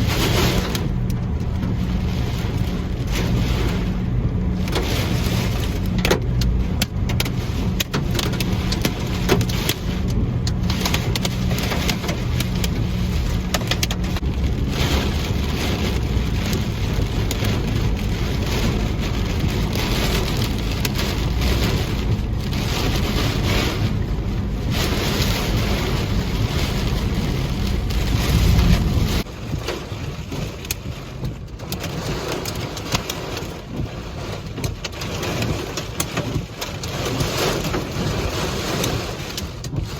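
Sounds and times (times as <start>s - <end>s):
heavy rain beating on vehicle: 0.0s - 39.9s
road and engine rumble: 0.0s - 39.9s.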